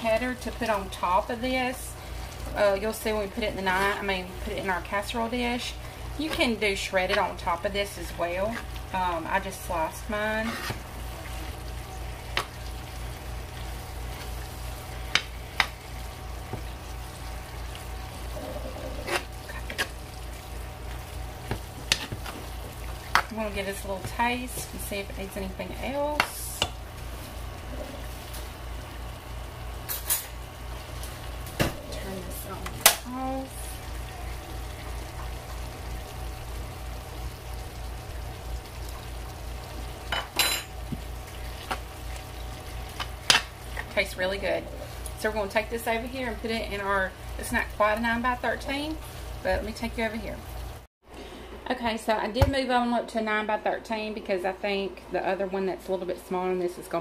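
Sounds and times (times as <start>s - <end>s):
steady low hum: 0.0s - 56.4s.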